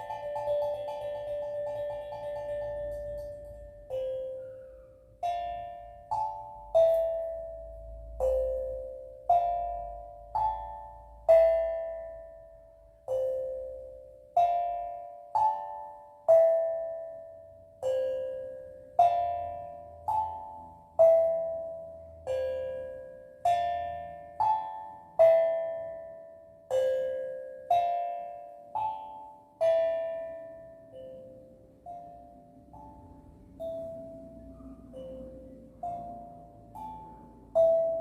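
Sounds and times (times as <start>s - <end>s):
steel drum melody: 0.0s - 38.0s.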